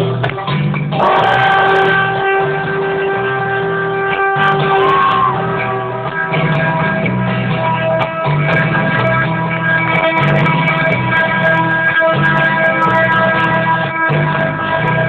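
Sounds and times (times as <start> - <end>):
guitar: 0.0 - 15.0
live rock band playing: 0.0 - 15.0
repeating bass line: 0.0 - 15.0.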